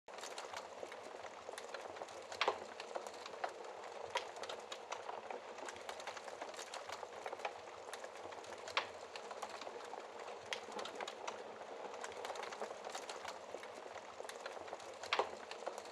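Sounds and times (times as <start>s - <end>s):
wood fire crackling: 0.1s - 15.9s.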